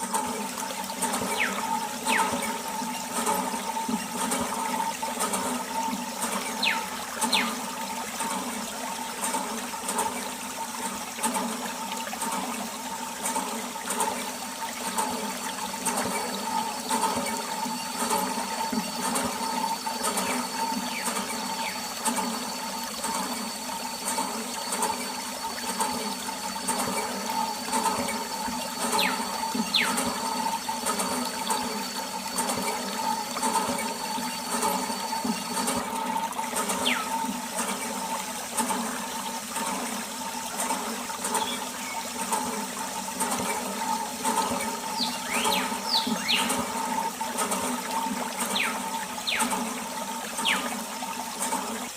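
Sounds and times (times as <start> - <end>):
steady hum: 0.0 - 51.9
water running and splashing: 0.0 - 51.9.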